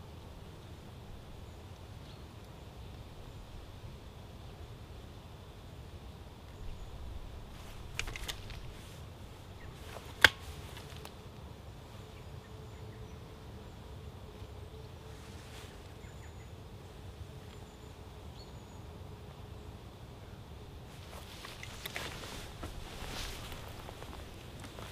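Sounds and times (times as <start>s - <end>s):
faint steady drone: 0.0s - 24.9s.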